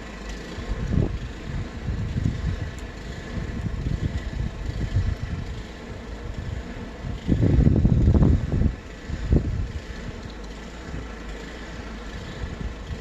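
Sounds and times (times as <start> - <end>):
wind gusting against microphone: 0.6 - 11.1.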